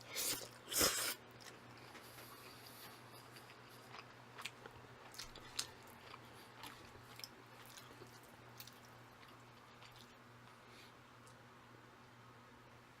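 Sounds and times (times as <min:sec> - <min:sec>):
chewing noodles: 0:00.1 - 0:10.6.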